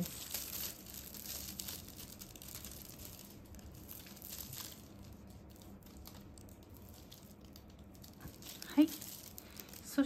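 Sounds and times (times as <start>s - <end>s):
plastic tape crinkling: 0.0s - 10.0s.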